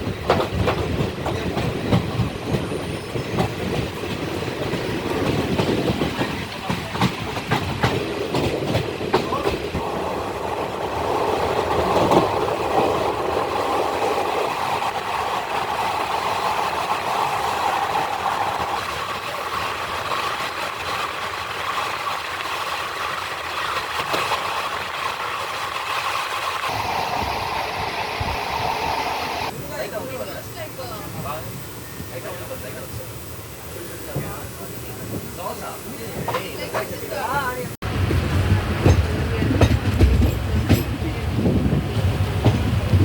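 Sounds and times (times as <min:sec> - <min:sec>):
train wheels on rails: 0:00.0 - 0:43.0.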